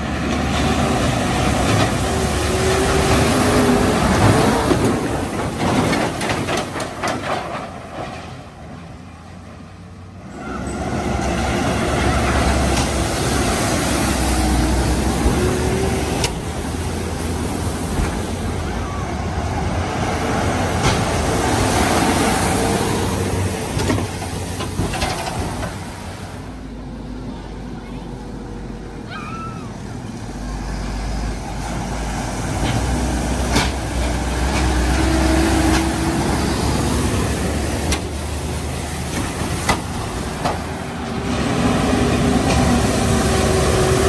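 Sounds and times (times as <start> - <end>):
water rushing and splashing: 0.0 - 7.7, 10.4 - 27.1, 29.2 - 44.0
tractor diesel engines: 0.0 - 44.0.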